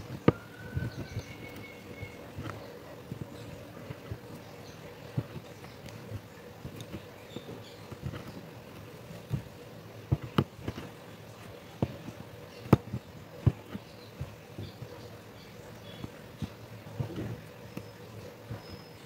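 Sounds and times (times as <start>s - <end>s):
needle tapping through stretched cloth: 0.0s - 19.0s.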